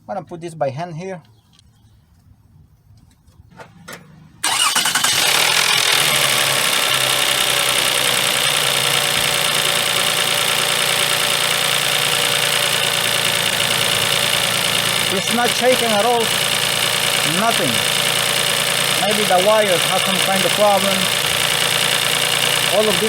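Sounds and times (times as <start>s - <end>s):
engine starting and idling: 3.5s - 23.0s.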